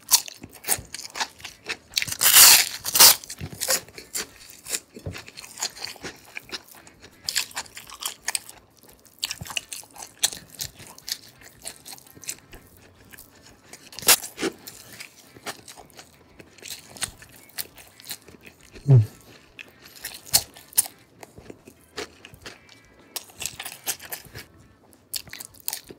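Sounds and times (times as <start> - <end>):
person chewing crunchy food: 0.0 - 25.9.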